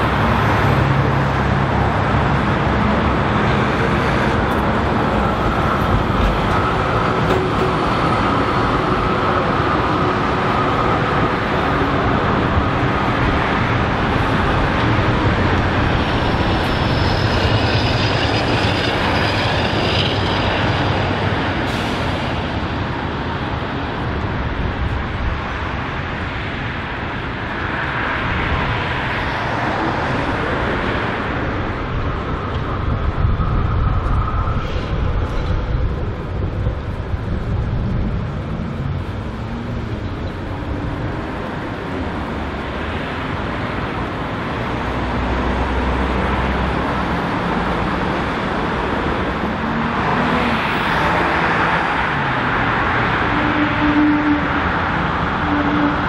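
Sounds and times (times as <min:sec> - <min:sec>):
road traffic: 0:00.0 - 0:56.0
tram wheels and motors humming: 0:00.0 - 0:56.0.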